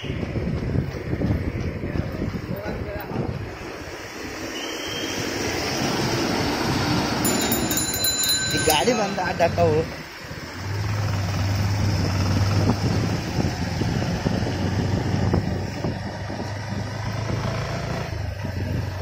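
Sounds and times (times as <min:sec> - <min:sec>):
low engine hum: 0:00.0 - 0:19.0
road and wind noise: 0:00.0 - 0:19.0
traffic passing: 0:00.0 - 0:19.0.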